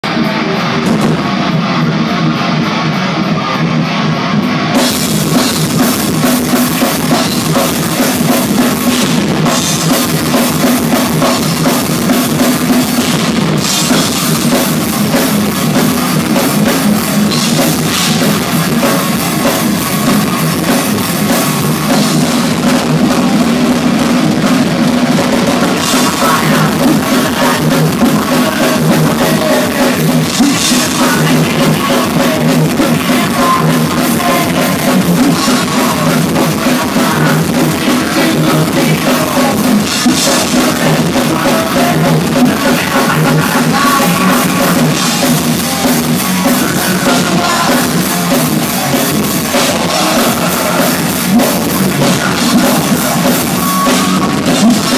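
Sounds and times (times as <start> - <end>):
distorted electric guitars: 0.0 - 54.9
drum kit: 0.0 - 54.9.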